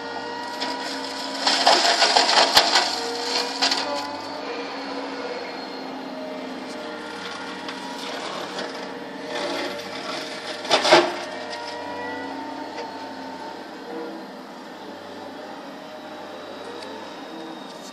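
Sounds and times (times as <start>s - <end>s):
loud grinding: 0.0s - 17.9s
mulcher shredding brush: 0.0s - 17.9s.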